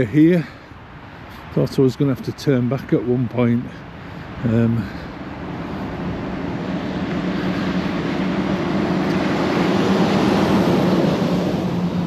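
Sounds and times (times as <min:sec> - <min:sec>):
tyre and road noise: 0:00.0 - 0:12.0
vehicle engine hum: 0:00.0 - 0:12.0.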